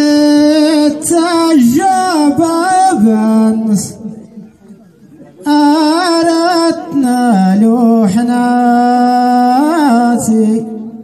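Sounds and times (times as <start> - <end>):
man singing unaccompanied: 0.0 - 4.4, 5.4 - 11.0.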